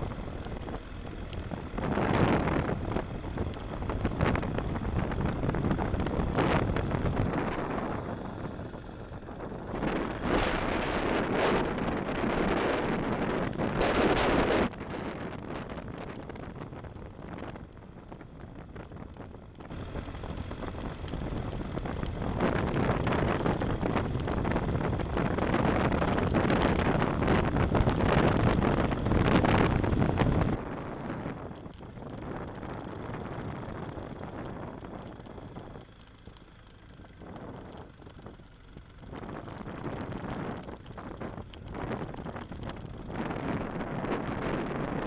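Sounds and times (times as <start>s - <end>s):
wind rushing over microphone: 0.0s - 35.9s, 36.9s - 45.0s
motorcycle engine running: 0.0s - 45.0s.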